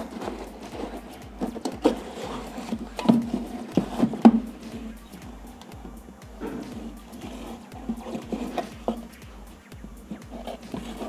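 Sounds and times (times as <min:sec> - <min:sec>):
cardboard box being handled: 0:00.0 - 0:11.0
knocks taps and scraping: 0:00.0 - 0:11.0.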